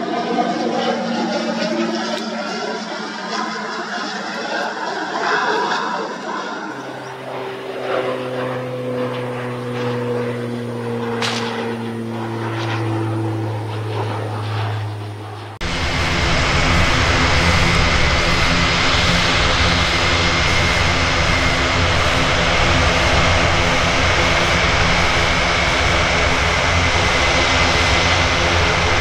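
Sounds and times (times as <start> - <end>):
rough turboprop engines: 0.0 - 29.0
turboprop plane drone: 0.0 - 29.0.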